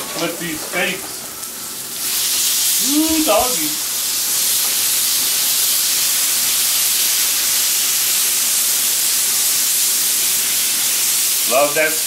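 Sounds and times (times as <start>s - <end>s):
steaks sizzling on a griddle: 0.2s - 12.0s.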